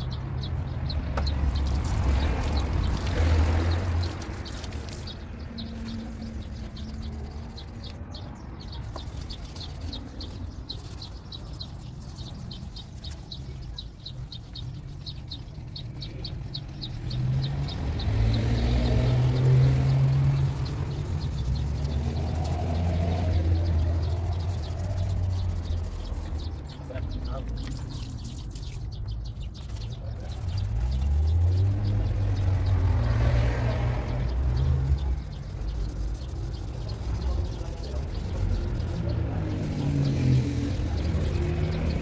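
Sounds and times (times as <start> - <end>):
passing vehicle rumbling: 0.0 - 42.0
small bird chirping: 0.0 - 42.0.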